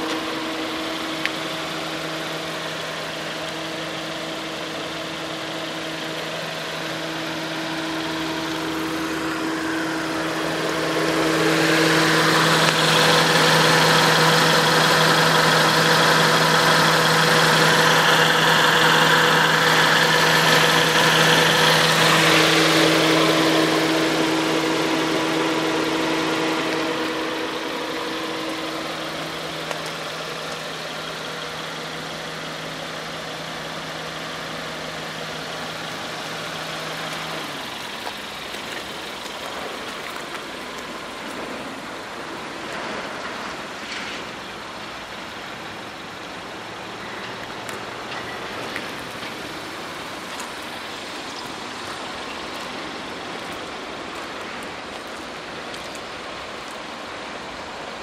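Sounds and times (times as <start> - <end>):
car engine idling: 0.0 - 58.0
outdoor background noise: 0.0 - 58.0.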